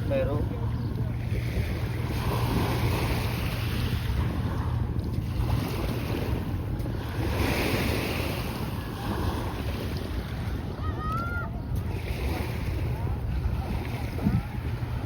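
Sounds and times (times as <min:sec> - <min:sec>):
sea waves washing onto beach: 0:00.0 - 0:15.0
wind rumbling on microphone: 0:00.0 - 0:15.0.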